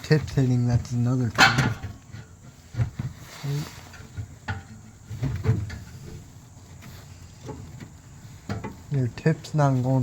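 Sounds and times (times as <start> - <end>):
exhaust parts knocking and rattling: 0.0 - 10.0.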